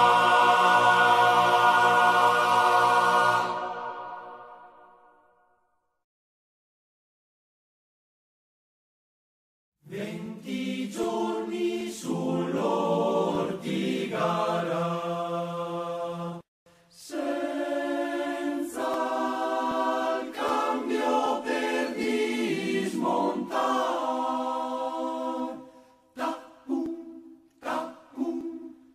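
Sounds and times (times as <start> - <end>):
choir singing: 0.0 - 5.1, 9.8 - 28.9.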